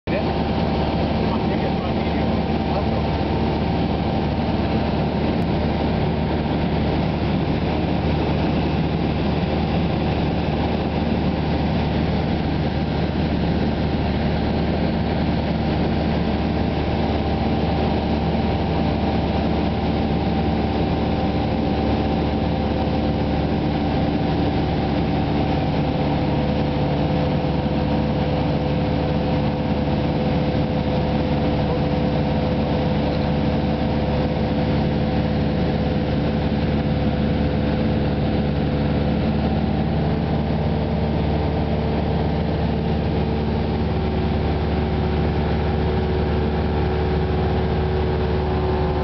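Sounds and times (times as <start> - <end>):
aircraft engine and propeller drone: 0.1 - 49.0.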